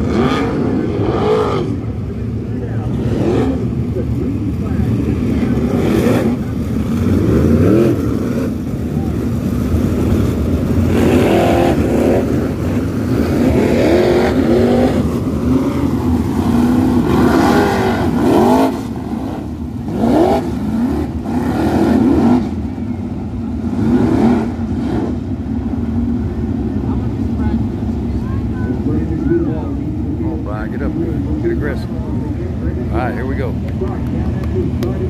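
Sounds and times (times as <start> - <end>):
race car engines rumbling: 0.0 - 35.0.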